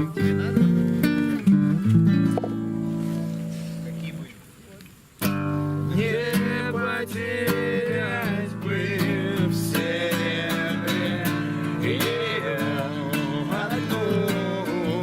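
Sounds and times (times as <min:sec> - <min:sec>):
acoustic guitar strumming: 0:00.0 - 0:04.4, 0:05.2 - 0:15.0.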